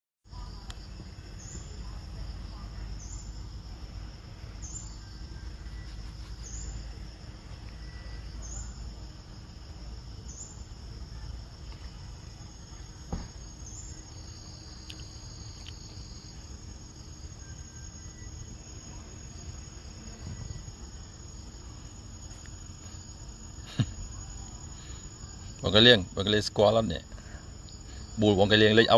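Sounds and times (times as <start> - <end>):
insect chirring: 0.3 - 28.9.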